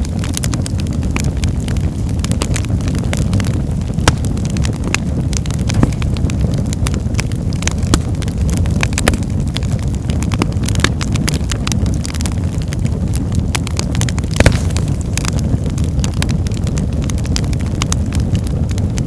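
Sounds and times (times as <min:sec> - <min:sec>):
fire crackling and popping: 0:00.0 - 0:19.0
low rumble: 0:00.0 - 0:19.0.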